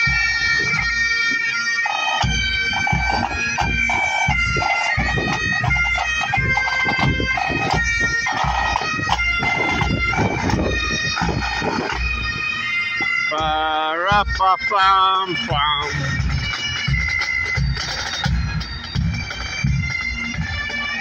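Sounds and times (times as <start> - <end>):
bagpipes playing: 0.0 - 21.0
marching drums beating: 0.0 - 21.0.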